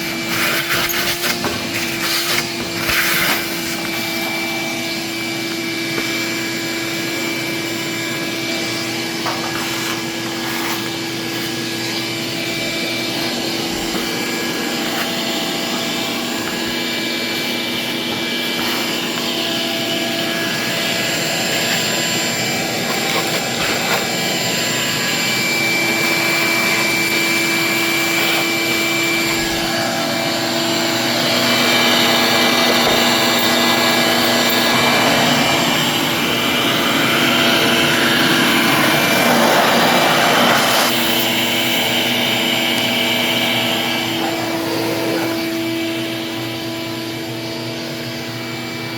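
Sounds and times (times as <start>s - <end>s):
shop vacuum running: 0.0s - 48.9s.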